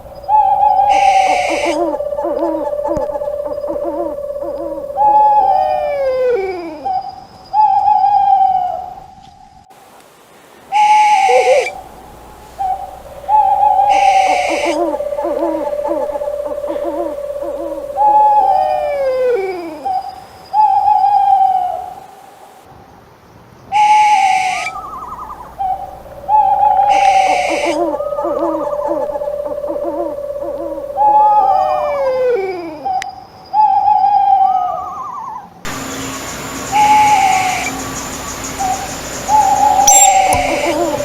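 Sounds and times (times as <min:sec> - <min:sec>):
owl hooting: 0:00.0 - 0:09.5, 0:10.7 - 0:22.2, 0:23.8 - 0:33.0, 0:33.6 - 0:41.0
harsh high owl calls: 0:00.0 - 0:09.6, 0:10.7 - 0:22.5, 0:23.8 - 0:41.0.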